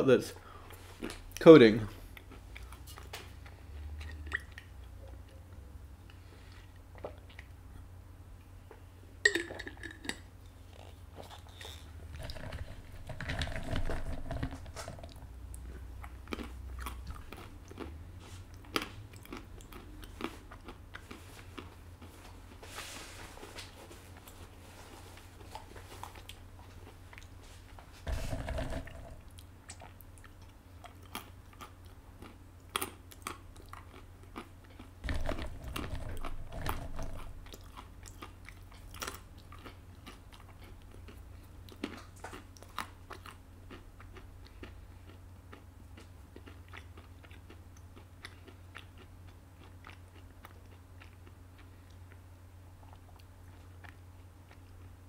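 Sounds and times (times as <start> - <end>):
person chewing and crunching food: 0.4 - 7.9, 8.6 - 55.0.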